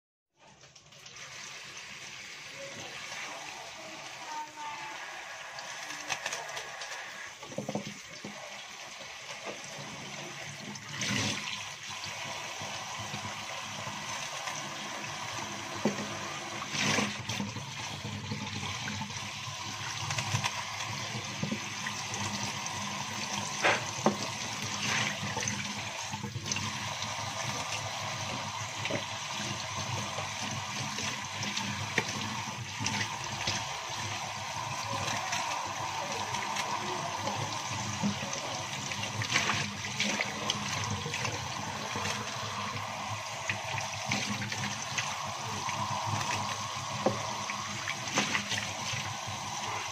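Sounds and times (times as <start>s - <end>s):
faucet running: 0.5s - 49.9s
water splashing into basin: 4.8s - 49.9s.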